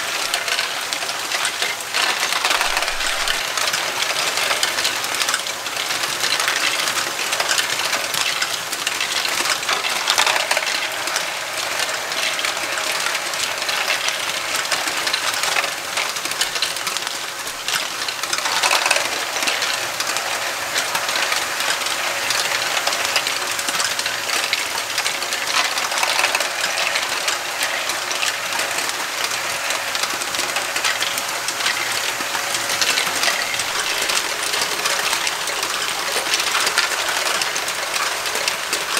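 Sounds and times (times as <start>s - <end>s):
plastic balls clattering on tracks: 0.0s - 38.9s
toy motors whining: 0.0s - 38.9s.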